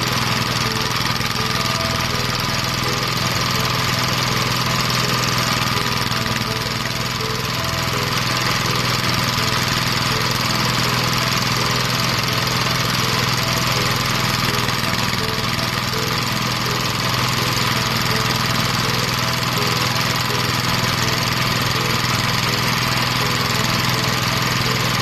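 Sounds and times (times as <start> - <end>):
thresher engine drone: 0.0 - 25.0.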